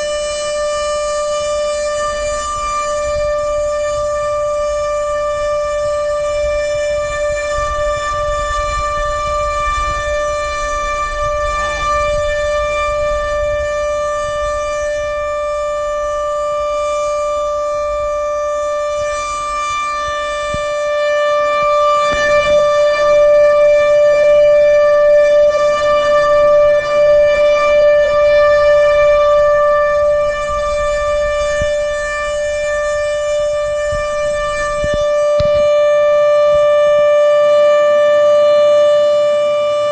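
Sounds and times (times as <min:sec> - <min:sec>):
low wind rumble: 0:00.0 - 0:39.9
warning siren steady tone: 0:00.0 - 0:39.9.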